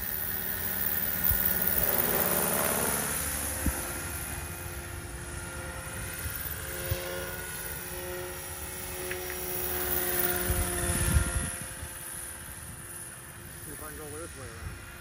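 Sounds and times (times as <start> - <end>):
model helicopter rotor hum: 0.0 - 15.0.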